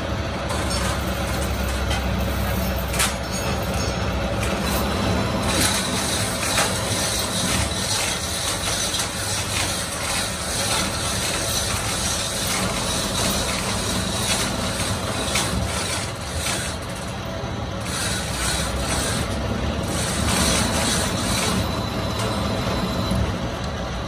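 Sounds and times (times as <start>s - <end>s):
metalworking machine humming: 0.0s - 24.0s.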